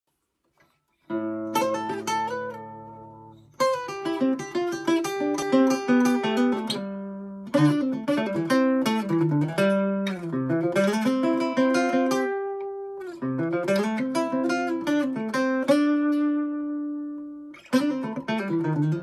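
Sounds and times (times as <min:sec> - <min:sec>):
acoustic guitar picking chords: 0:01.1 - 0:19.0.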